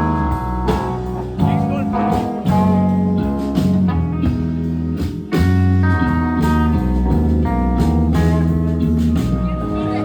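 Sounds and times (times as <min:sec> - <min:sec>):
live band guitar instrumental: 0:00.0 - 0:10.0.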